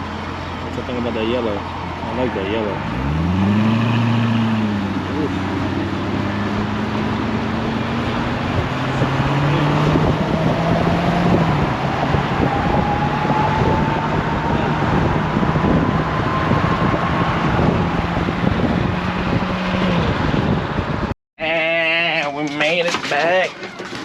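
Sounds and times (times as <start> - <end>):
car engine drone: 0.0 - 21.2
road and wind noise: 0.0 - 21.2, 22.1 - 24.0.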